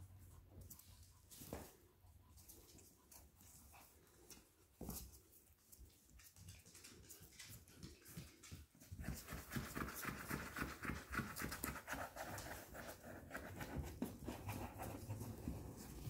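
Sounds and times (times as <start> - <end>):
puppy panting: 0.0 - 16.0.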